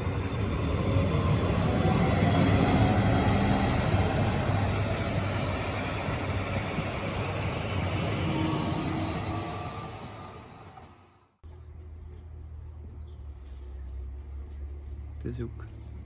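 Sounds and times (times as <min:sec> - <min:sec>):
train rumble and rail noise: 0:00.0 - 0:16.0.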